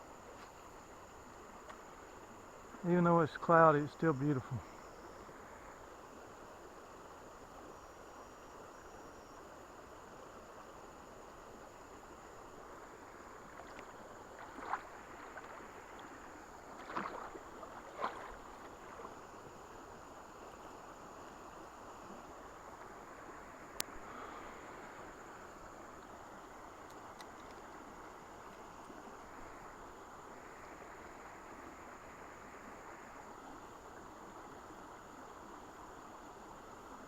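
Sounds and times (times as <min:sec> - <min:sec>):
river water flowing around boat: 0:00.0 - 0:37.0.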